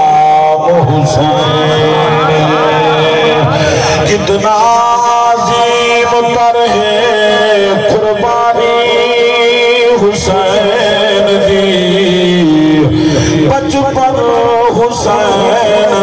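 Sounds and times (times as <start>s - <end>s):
man singing melismatic verse: 0.0s - 16.0s.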